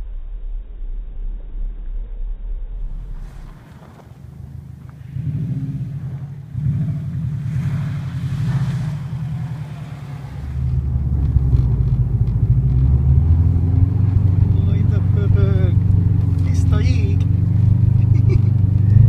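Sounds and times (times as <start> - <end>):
car engine revving: 2.8 - 19.0.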